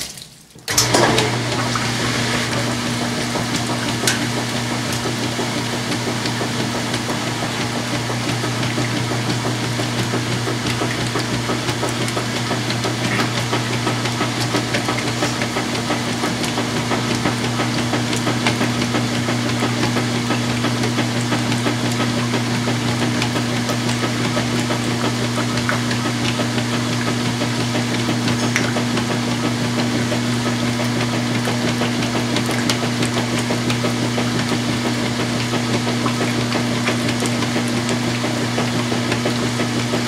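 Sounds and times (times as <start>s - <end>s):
washer motor hum: 0.0s - 40.0s
water and towels sloshing: 0.0s - 40.0s.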